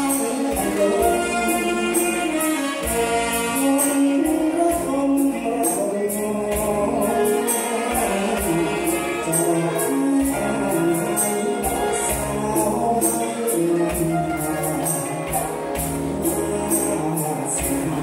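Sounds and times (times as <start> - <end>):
drums: 0.0 - 18.0
high percussion beat: 0.0 - 18.0
man singing slow song: 0.0 - 18.0.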